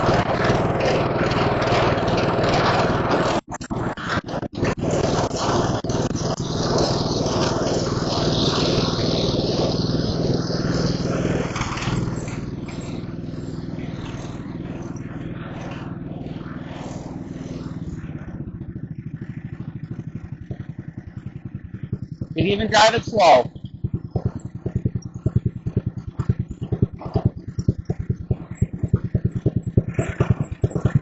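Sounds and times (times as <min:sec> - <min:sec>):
riding mower engine running: 0:00.0 - 0:31.0.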